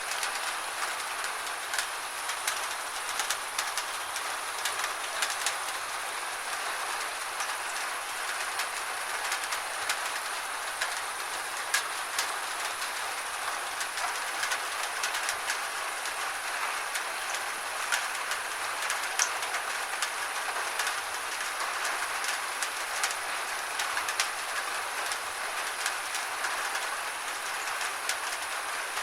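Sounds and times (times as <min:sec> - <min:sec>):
gentle rain hissing: 0:00.0 - 0:29.0.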